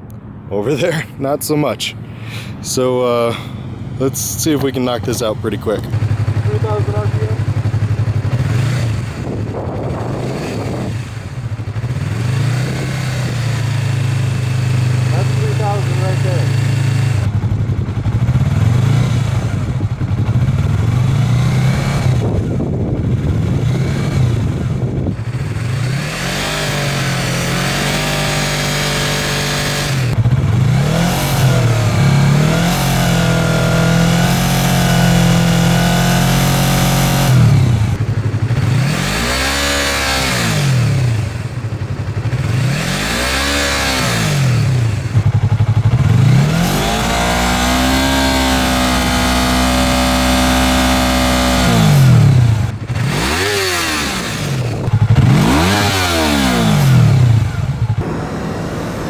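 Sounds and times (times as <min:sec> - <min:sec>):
motorcycle engine revving: 0:02.3 - 0:59.0.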